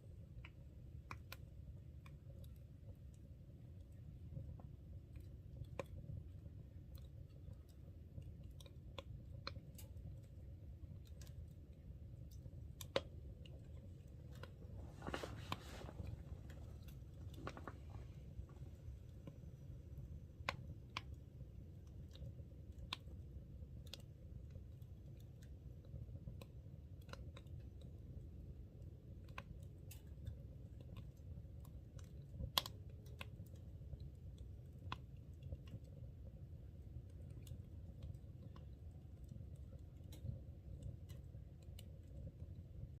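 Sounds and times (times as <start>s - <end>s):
stove low rumble: 0.0s - 43.0s
wood fire crackling and popping: 0.0s - 43.0s.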